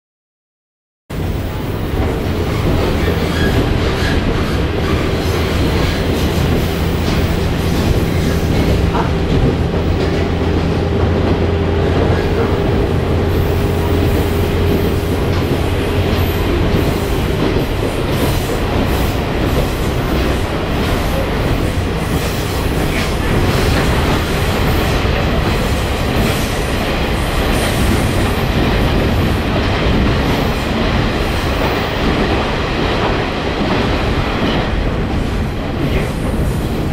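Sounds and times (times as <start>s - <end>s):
train wheels rumbling on rail: 1.1s - 36.9s.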